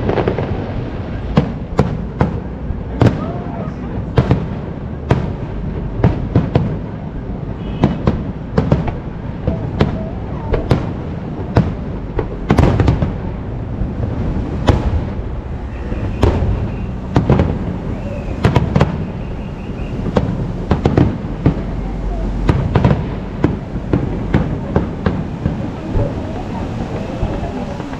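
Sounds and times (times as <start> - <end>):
fireworks bangs: 0.0 - 27.9
low rumble of explosions: 0.0 - 27.9.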